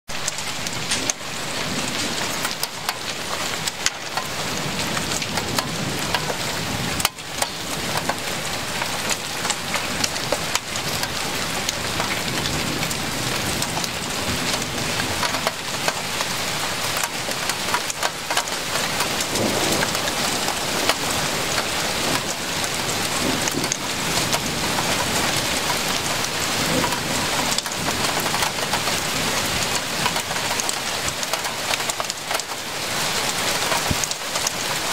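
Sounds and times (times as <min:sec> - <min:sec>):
heavy rain pouring: 0:00.1 - 0:34.9
raindrops tapping close by: 0:00.1 - 0:34.9.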